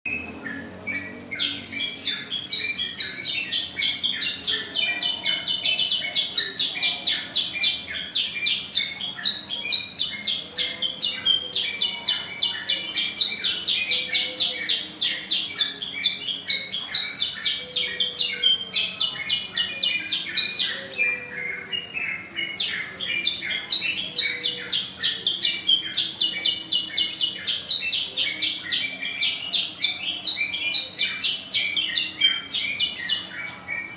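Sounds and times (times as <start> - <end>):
songbird singing rapid high chirps: 0.1 - 33.9.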